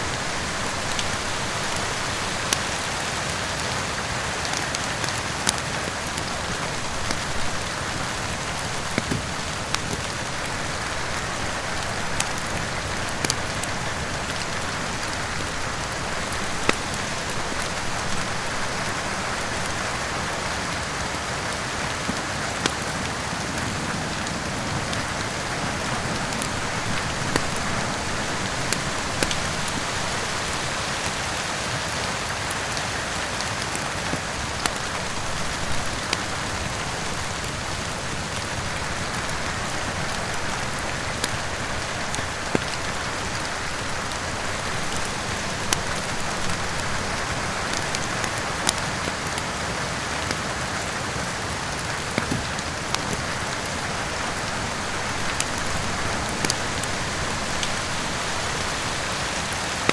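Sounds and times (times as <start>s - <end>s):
heavy rain: 0.0s - 59.9s
wood fire crackling: 0.0s - 59.9s.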